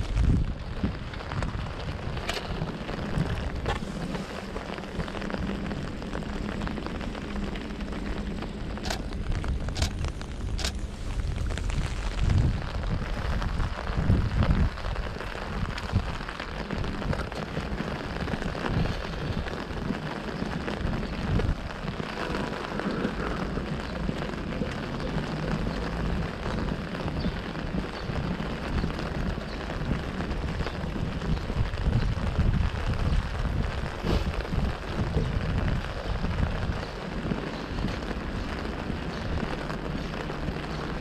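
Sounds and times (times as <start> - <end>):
low rumble: 0.0 - 41.0
rain on umbrella: 0.0 - 41.0.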